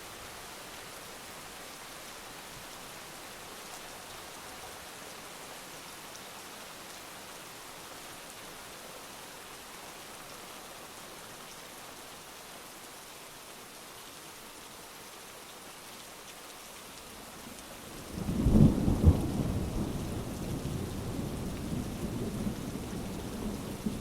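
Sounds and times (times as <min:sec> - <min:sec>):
heavy rain falling: 0:00.1 - 0:24.0.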